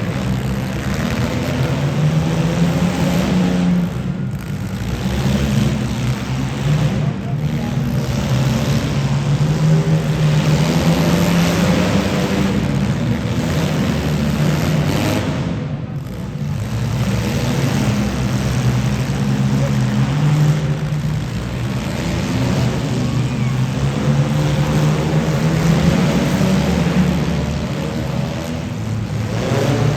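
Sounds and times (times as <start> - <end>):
car engines revving: 0.0 - 29.9.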